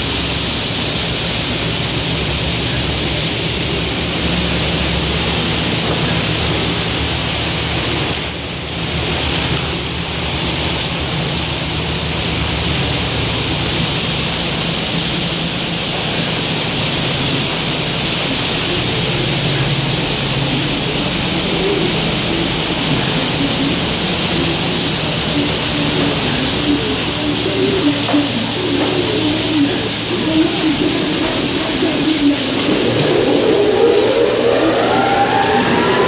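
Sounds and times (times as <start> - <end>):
low machinery hum: 0.0 - 36.0
water jets spraying: 0.0 - 36.0.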